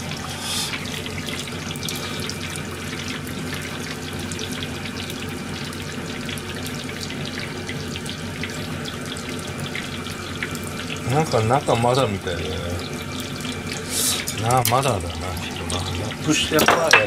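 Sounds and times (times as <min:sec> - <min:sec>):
hot oil sizzling and crackling: 0:00.0 - 0:17.0.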